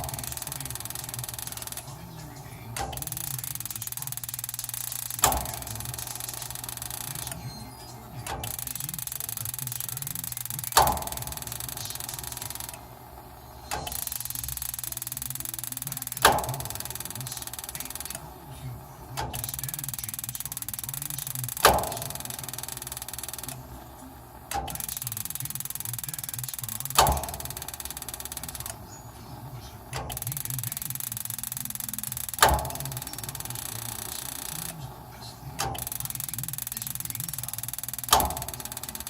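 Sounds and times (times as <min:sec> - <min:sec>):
furnace click: 0:00.0 - 0:39.0.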